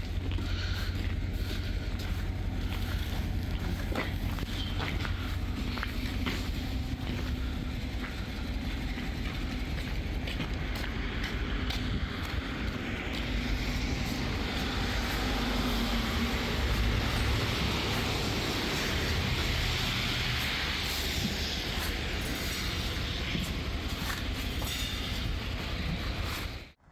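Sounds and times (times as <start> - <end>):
truck engine and road noise: 0.0 - 26.8
loud hiss: 0.6 - 26.8.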